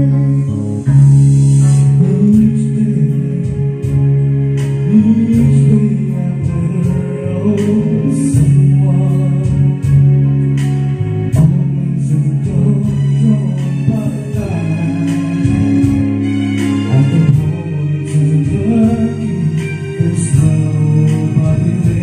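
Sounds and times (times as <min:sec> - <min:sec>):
karaoke music with guitar: 0:00.0 - 0:22.0
person singing: 0:00.0 - 0:22.0.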